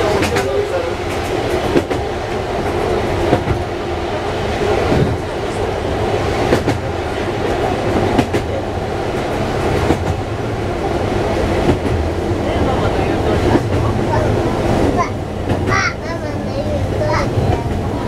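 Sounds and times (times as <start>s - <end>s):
train rumble and hum: 0.0s - 18.0s.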